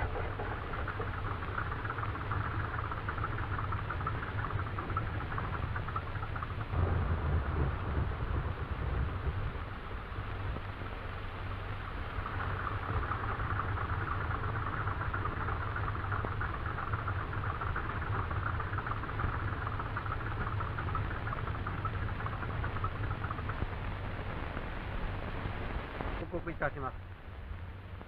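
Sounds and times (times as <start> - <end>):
aircraft engines running: 0.0 - 28.0
steady low hum: 0.0 - 28.0.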